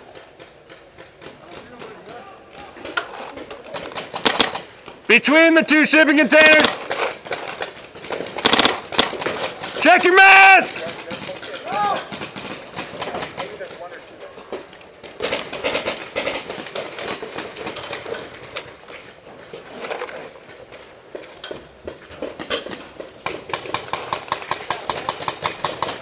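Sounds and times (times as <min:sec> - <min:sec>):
paintball markers firing: 0:00.0 - 0:05.1, 0:06.1 - 0:18.8, 0:21.4 - 0:26.0.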